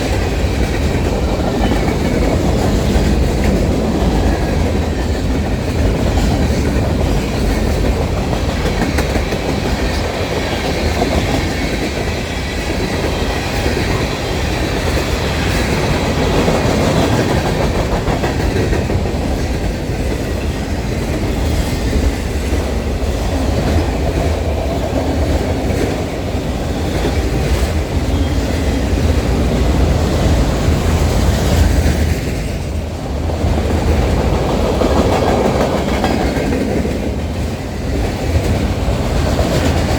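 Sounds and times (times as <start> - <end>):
train rumbling past: 0.0 - 39.9
train wheels clattering over rail joints: 0.0 - 39.9.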